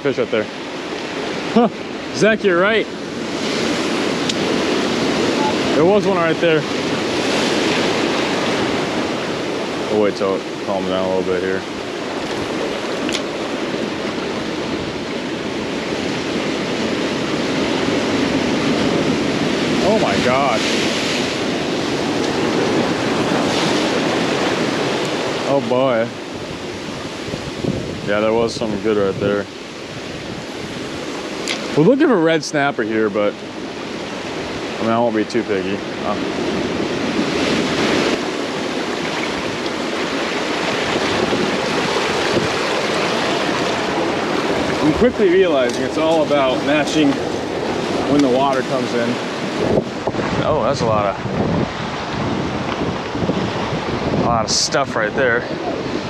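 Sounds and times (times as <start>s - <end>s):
surf washing against rocks: 0.0s - 56.0s.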